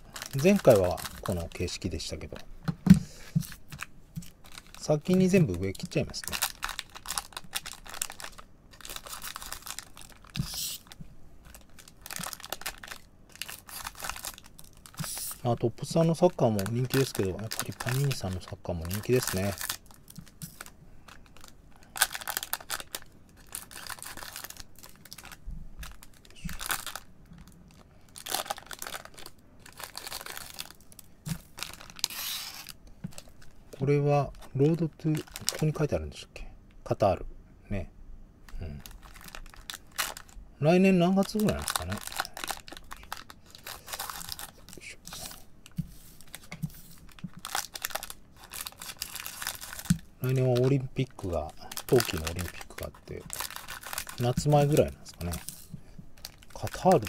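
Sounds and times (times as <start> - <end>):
foil wrappers crinkling: 0.0 - 2.4, 3.2 - 36.0, 38.6 - 57.0.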